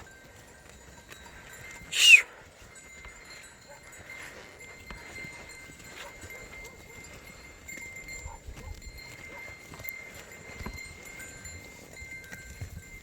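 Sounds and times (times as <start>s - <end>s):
hooves clicking and knocking: 0.0s - 13.0s.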